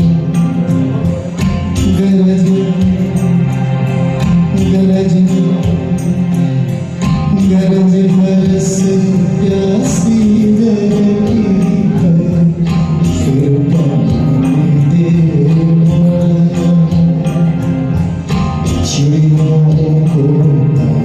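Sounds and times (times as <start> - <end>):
karaoke backing track: 0.0 - 21.0.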